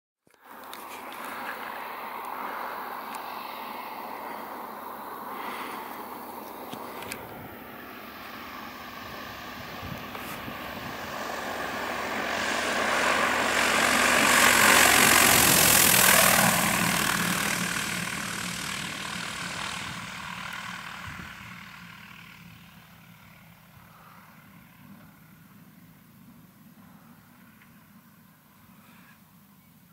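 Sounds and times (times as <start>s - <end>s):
airplane engine idling: 0.3s - 29.9s.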